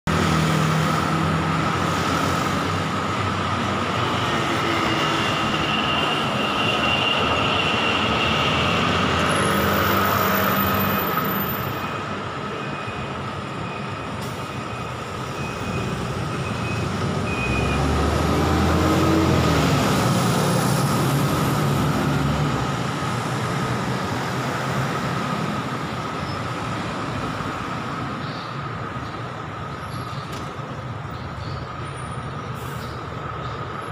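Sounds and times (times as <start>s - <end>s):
scooters and cars passing: 0.1s - 14.2s, 14.8s - 33.9s
bus passing close: 0.1s - 33.9s.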